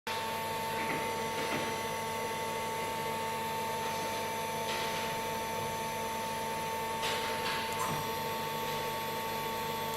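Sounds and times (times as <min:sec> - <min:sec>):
machining center whine and hum: 0:00.1 - 0:09.9.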